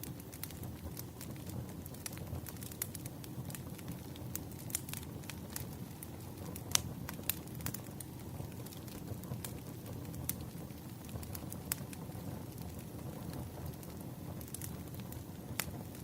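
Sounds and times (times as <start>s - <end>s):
low rush of flames: 0.0s - 16.0s
wood fire crackling and popping: 0.0s - 16.0s.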